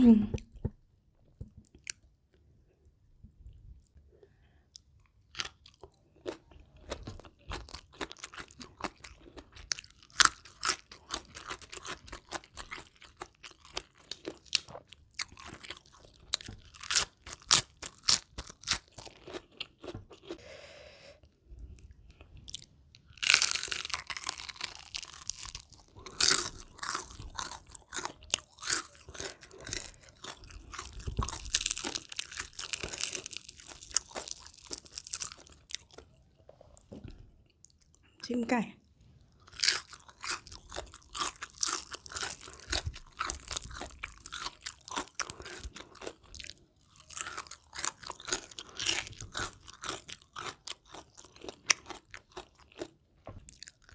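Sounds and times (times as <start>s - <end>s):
chewing crunchy food: 1.4s - 2.5s, 4.6s - 20.4s, 21.5s - 38.0s, 39.2s - 53.9s.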